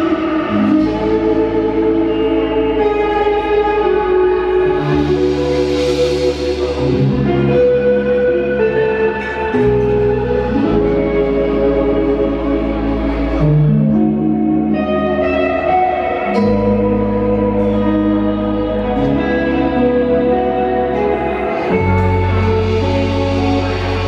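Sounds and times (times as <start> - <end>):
deep held low notes: 0.0 - 24.0
electric guitar chords: 0.0 - 24.0
rock band playing: 0.0 - 24.0.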